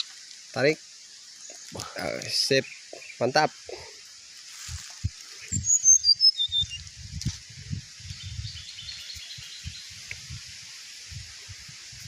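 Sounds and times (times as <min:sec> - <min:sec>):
small songbird chirping: 0:00.0 - 0:11.7.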